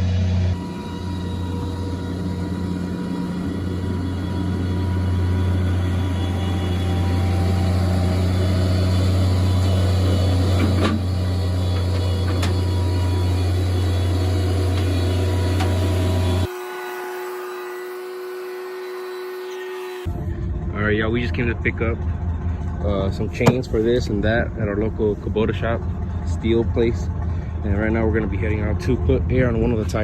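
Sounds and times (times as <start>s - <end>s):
loader engine running: 0.0s - 30.0s.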